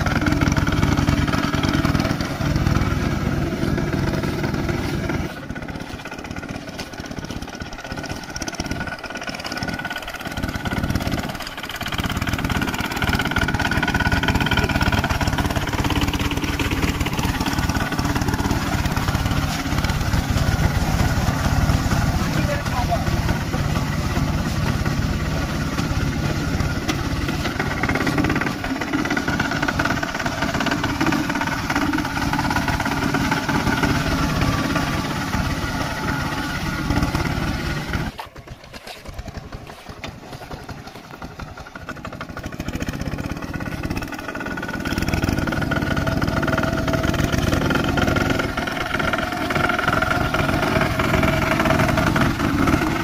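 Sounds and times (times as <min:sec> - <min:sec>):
diesel tractor engine running: 0:00.0 - 0:53.0
wheels churning water: 0:00.0 - 0:53.0.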